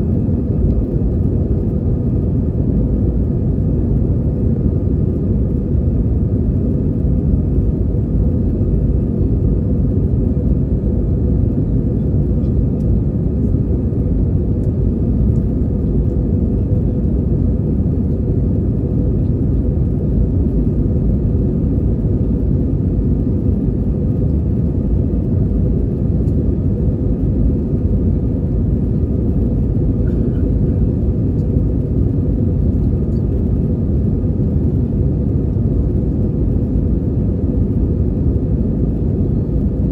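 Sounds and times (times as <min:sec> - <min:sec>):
aircraft engine rumble: 0:00.0 - 0:39.9
faint steady hum: 0:00.0 - 0:39.9.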